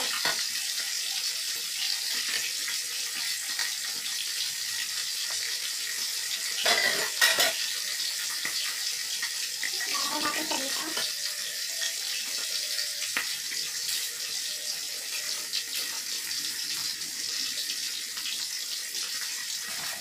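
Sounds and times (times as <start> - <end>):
fish sizzling in hot oil: 0.0 - 20.0.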